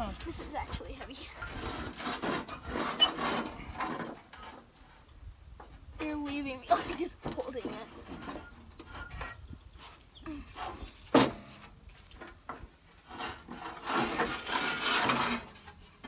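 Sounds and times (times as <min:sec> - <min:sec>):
radiator scraping sheet metal: 0:00.0 - 0:04.8, 0:06.6 - 0:12.4, 0:13.0 - 0:16.0.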